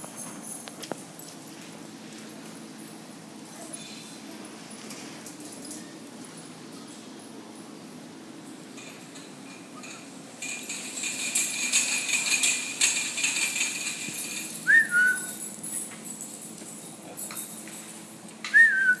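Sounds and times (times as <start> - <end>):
metallic jingling and clinking: 0.0 - 18.6.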